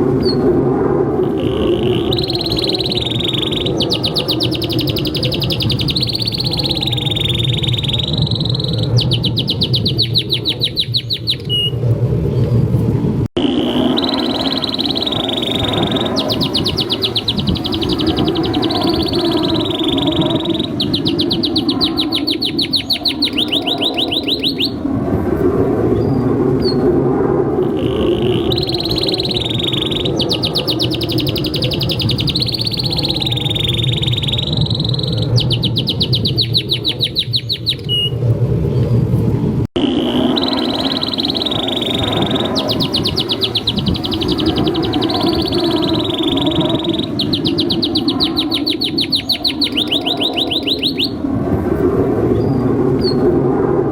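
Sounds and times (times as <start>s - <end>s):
canary singing rolling trills: 1.2s - 12.6s, 13.4s - 24.9s, 27.6s - 39.0s, 39.8s - 51.3s.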